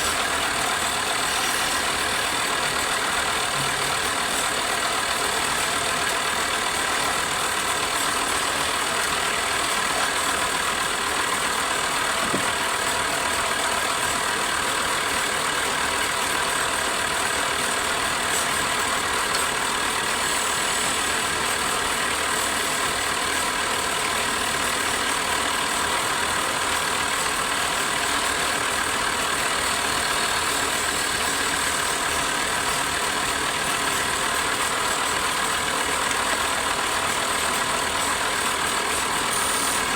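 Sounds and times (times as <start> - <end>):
wood lathe running: 0.0 - 39.9.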